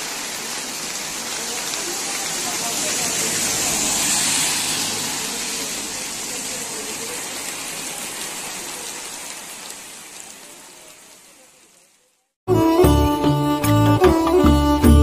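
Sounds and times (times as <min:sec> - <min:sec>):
heavy rain on wet road: 0:00.0 - 0:12.4.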